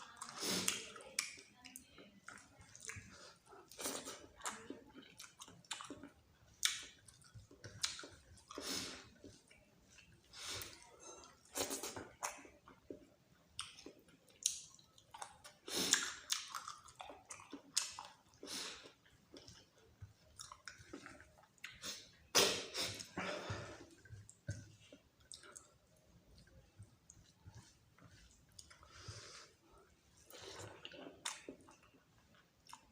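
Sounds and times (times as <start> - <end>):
person chewing with wet mouth sounds: 0.0 - 32.9.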